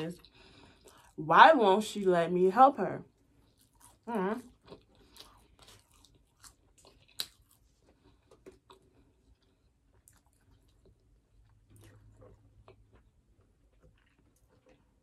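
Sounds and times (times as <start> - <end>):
person chewing food: 0.1 - 1.2, 3.1 - 15.0.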